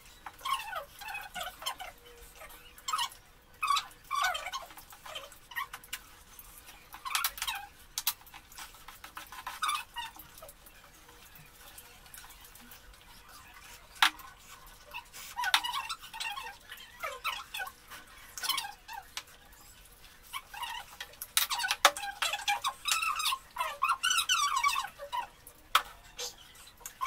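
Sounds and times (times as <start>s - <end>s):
people chewing: 0.0s - 27.0s.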